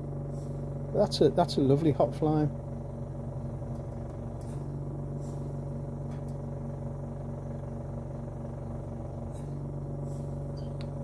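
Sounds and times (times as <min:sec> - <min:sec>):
oxygen concentrator compressor humming: 0:00.0 - 0:11.0.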